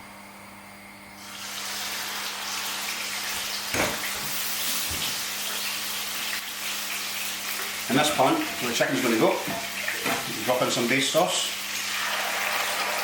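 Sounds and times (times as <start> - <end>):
prawns sizzling in a frying pan: 1.2 - 13.0.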